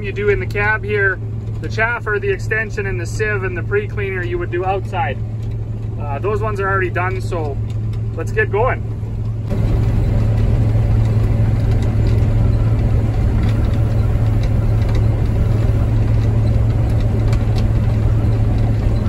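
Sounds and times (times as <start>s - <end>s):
combine engine and threshing drone: 0.0s - 19.0s
low hum: 0.0s - 19.0s.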